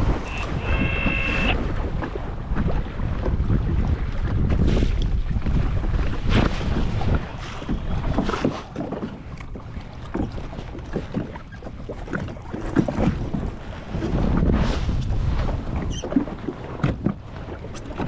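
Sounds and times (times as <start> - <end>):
water splashing against jet ski: 0.0 - 18.0
wind buffeting microphone: 0.0 - 18.0.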